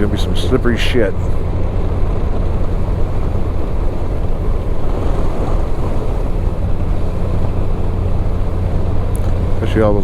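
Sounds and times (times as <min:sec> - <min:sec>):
motorcycle engine running: 0:00.0 - 0:10.0
tyres on wet road: 0:00.0 - 0:10.0
wind noise: 0:00.0 - 0:10.0.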